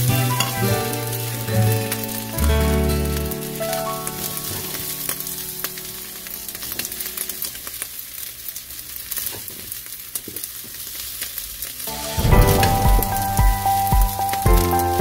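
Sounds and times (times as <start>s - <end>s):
fried rice sizzling in pan: 0.0s - 15.0s.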